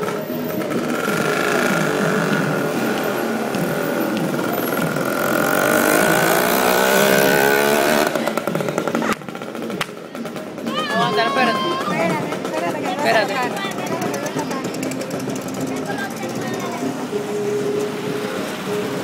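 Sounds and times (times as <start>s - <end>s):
loud engine running: 0.0s - 10.6s, 12.0s - 18.8s.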